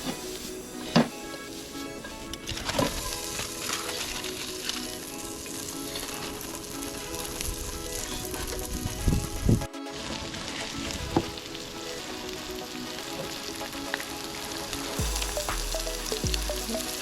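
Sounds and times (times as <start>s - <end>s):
noodles sizzling in a pan: 0.0s - 8.6s, 11.0s - 17.0s.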